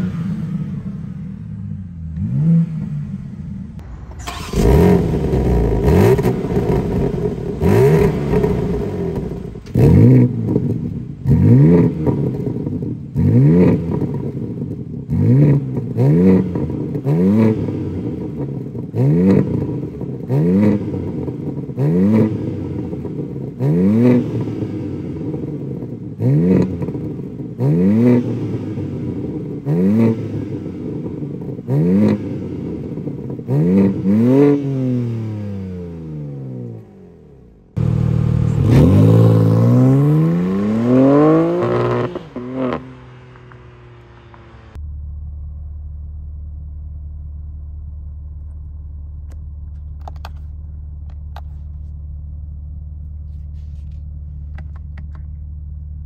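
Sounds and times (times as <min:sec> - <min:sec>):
car engine revving: 0:00.0 - 0:45.5.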